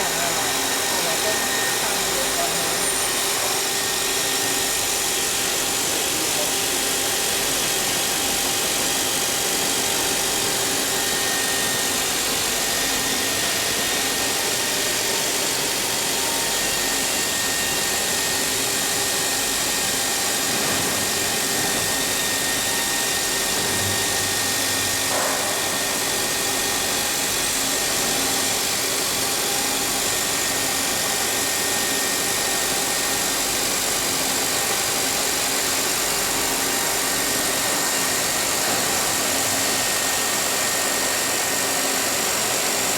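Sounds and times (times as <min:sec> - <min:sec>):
milling machine running: 0:00.0 - 0:42.9.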